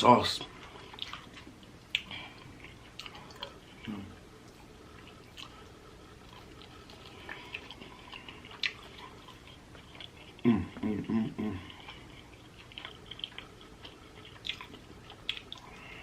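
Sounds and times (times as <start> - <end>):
person chewing food: 0.1 - 16.0.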